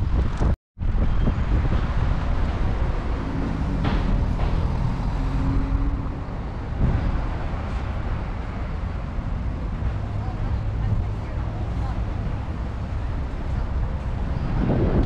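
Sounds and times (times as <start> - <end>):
passing traffic: 0.0 - 15.0
wind on the microphone: 0.0 - 15.0.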